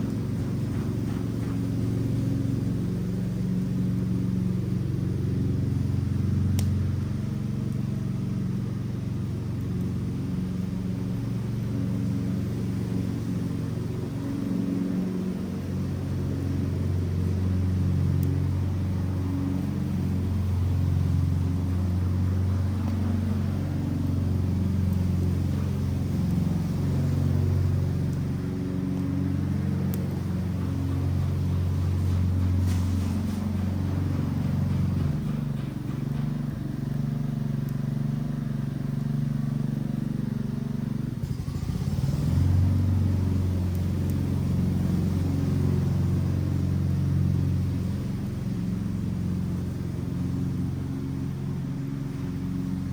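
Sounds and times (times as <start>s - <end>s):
fire crackling: 0.0s - 42.0s, 42.6s - 52.9s
fire low rumble: 0.0s - 52.9s.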